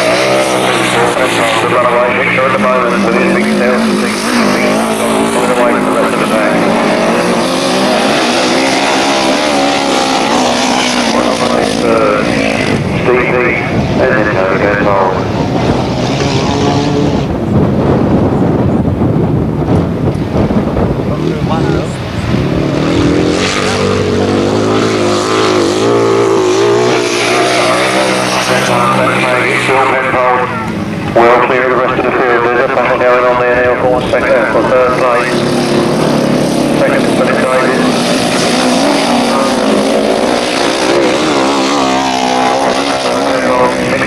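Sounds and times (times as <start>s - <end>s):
racing engines revving past: 0.0s - 44.0s.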